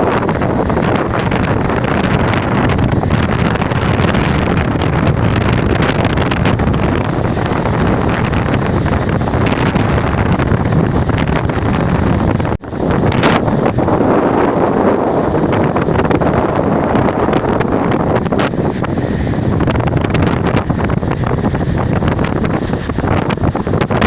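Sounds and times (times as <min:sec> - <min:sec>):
sea surf: 0:00.0 - 0:24.0
wind buffeting microphone: 0:00.0 - 0:24.0.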